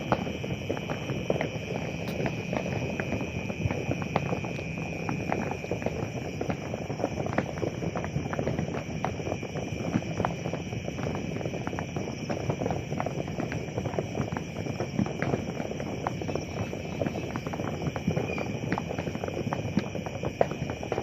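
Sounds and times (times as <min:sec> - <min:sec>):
fireworks crackling and popping: 0:00.0 - 0:21.0
steady background hiss: 0:00.0 - 0:21.0.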